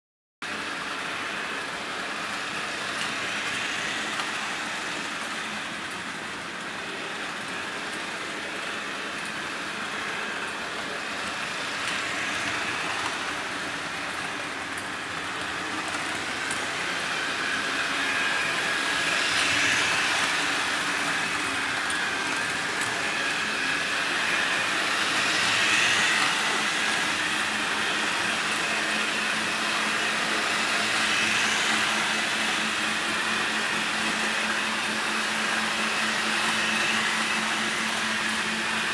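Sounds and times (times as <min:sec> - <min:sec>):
model train motor whine: 0:00.5 - 0:38.9.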